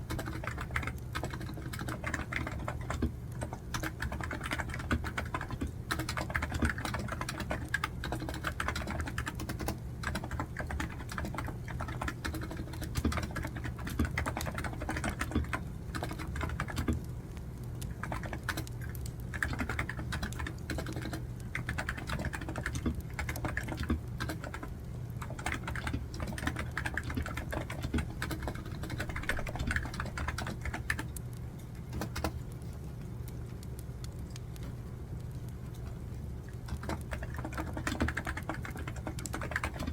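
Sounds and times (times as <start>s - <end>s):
typing on computer keyboard: 0.0s - 17.1s, 17.8s - 31.2s, 31.8s - 32.5s, 36.7s - 39.9s
crackling wood fire: 0.0s - 39.9s.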